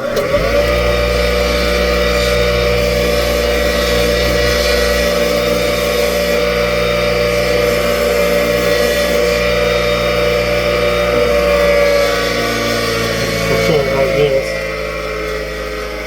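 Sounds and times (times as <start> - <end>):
bench grinder motor whining: 0.0 - 16.0.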